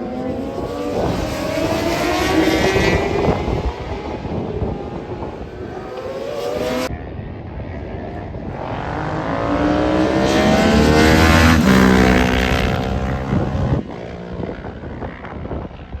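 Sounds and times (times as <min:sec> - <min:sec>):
racing motorcycles passing by: 0:00.0 - 0:06.9, 0:07.6 - 0:16.0.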